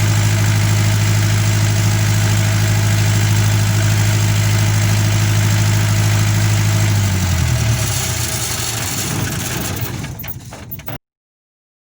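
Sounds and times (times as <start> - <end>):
diesel generator engine running: 0.0 - 11.0.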